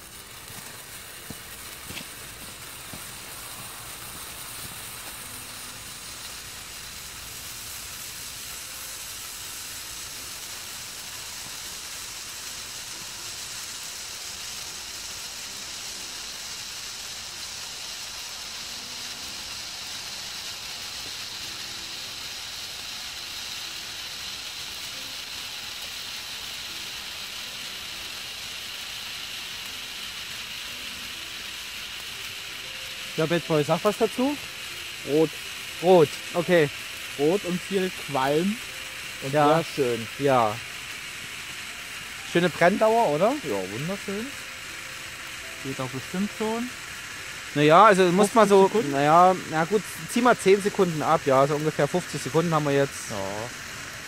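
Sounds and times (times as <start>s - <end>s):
torch burning with hiss: 0.0s - 54.0s.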